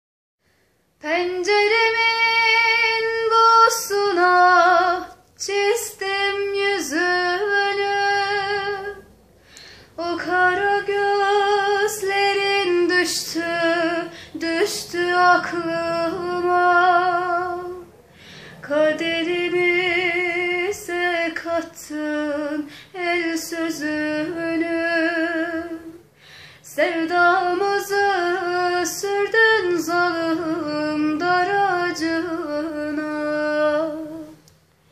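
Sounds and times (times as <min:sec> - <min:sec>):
woman singing with vibrato: 0:01.0 - 0:09.2, 0:09.8 - 0:34.5.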